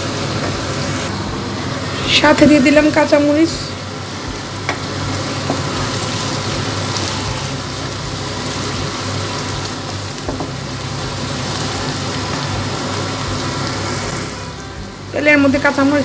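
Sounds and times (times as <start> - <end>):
onions sizzling in pan: 0.0 - 16.0.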